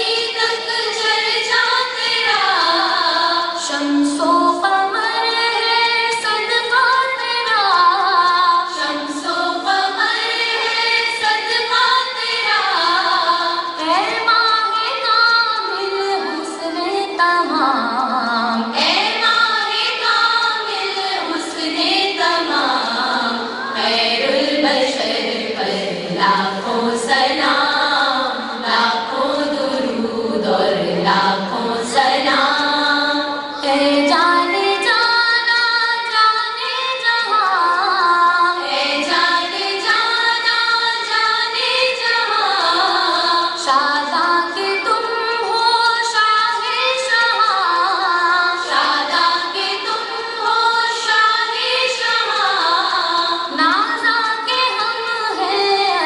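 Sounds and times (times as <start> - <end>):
girls singing devotional song: 0.0 - 56.0.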